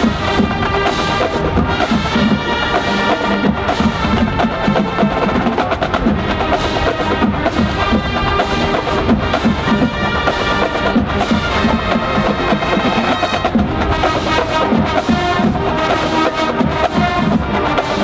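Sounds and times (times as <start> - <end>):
quick percussion hits: 0.0 - 18.0
sustained pitched notes: 0.0 - 18.0.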